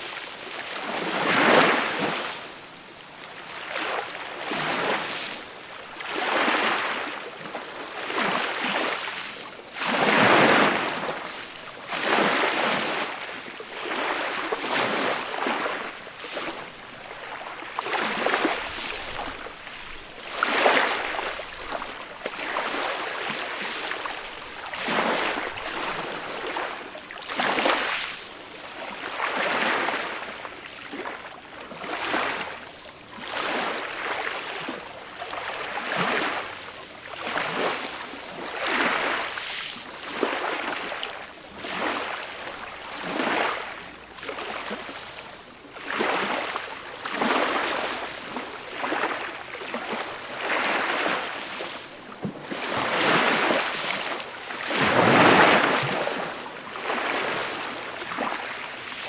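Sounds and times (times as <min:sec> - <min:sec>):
waves breaking on a beach: 0:00.0 - 0:59.0.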